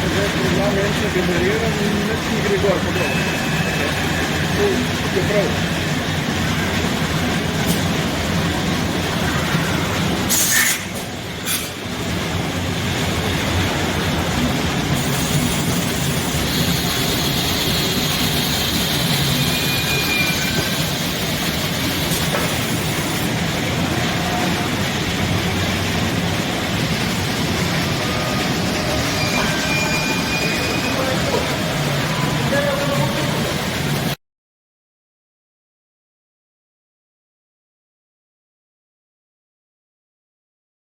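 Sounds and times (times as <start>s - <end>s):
woodworking machine running: 0.0s - 34.2s.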